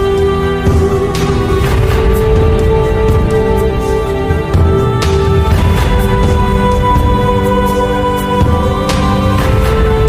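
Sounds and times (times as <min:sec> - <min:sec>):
heavy low beat: 0:00.0 - 0:10.0.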